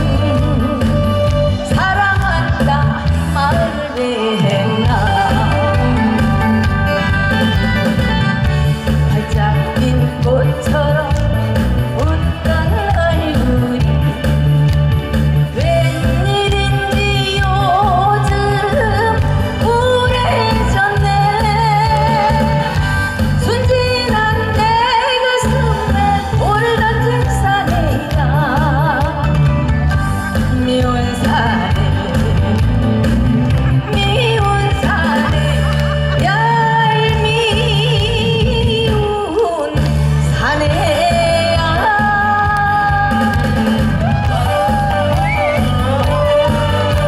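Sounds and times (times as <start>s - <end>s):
woman singing into a microphone: 0.0s - 14.8s, 15.4s - 32.9s, 33.8s - 47.0s
amplified backing music: 0.0s - 47.0s.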